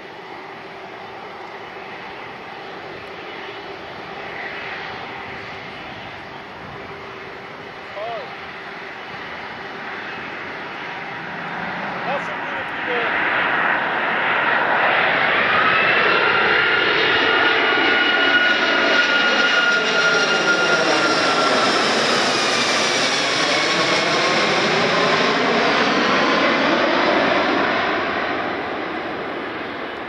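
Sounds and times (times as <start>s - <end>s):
jet aircraft flyover roar: 0.0s - 30.0s.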